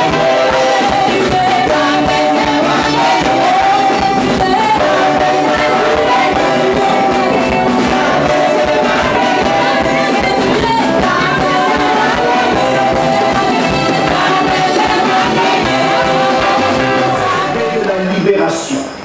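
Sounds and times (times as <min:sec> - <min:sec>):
group of singers: 0:00.0 - 0:18.3
band with guitar and drums: 0:00.0 - 0:19.0.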